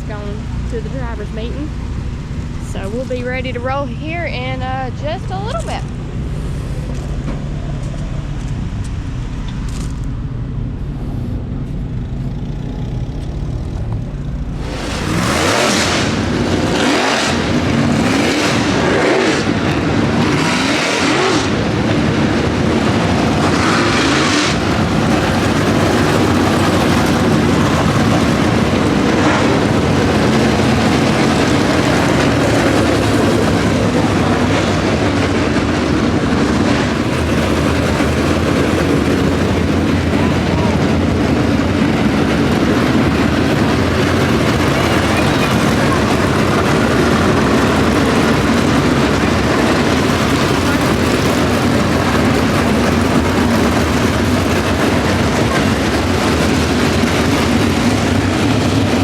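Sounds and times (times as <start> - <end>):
race car engines rumbling: 0.0 - 59.0.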